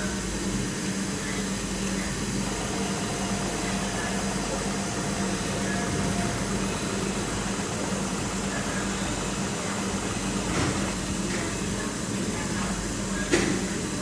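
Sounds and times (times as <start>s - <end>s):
printer mechanical hum: 0.0s - 14.0s.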